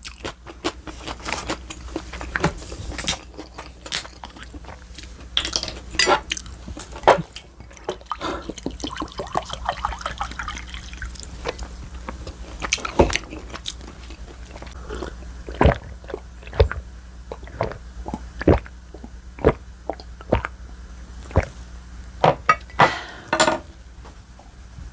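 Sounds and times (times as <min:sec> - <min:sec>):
wet chewing: 0:00.0 - 0:20.6, 0:21.2 - 0:21.6.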